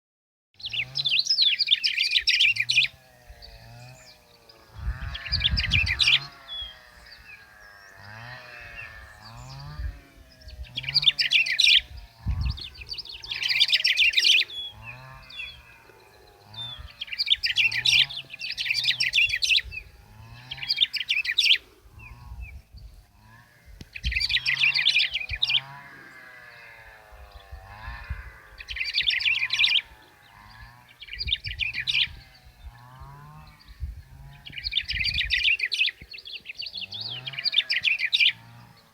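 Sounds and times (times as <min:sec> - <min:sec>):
bird singing high chirps: 0:00.6 - 0:23.0, 0:23.8 - 0:25.8, 0:27.3 - 0:38.8.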